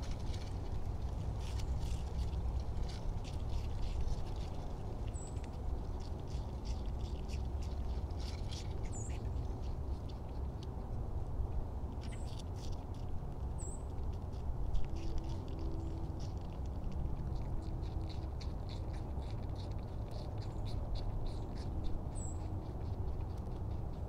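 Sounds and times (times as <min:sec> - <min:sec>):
low steady rumble: 0:00.0 - 0:24.0
rabbit chewing crisp crunches: 0:00.0 - 0:24.0.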